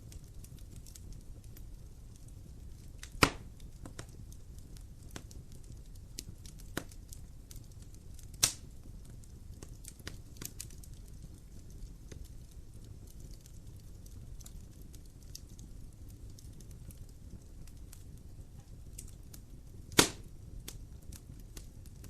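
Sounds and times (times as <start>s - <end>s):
loud fire pops: 0.0s - 22.0s
low fire rumble: 0.0s - 22.0s
wood fire crackling: 0.0s - 22.0s.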